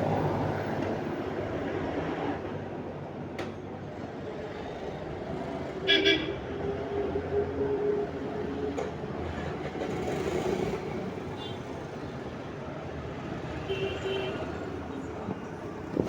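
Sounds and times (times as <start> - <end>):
passing motor vehicles: 0.0 - 16.0.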